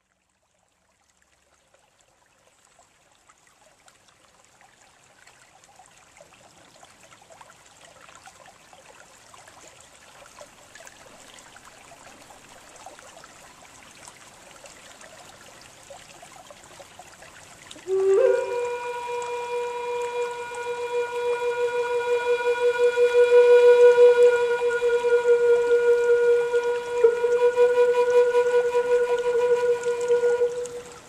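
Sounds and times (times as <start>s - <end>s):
trickling babbling water: 0.0s - 31.0s.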